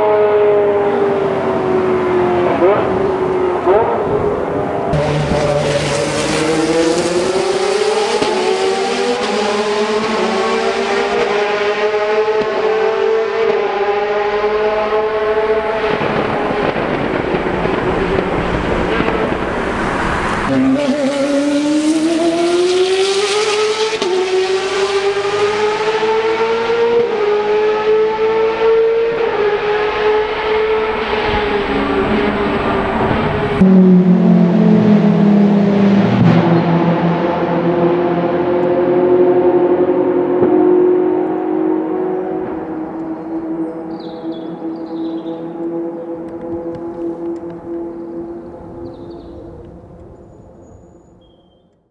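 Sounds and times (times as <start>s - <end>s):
race car engine at high revs: 0.0s - 50.2s.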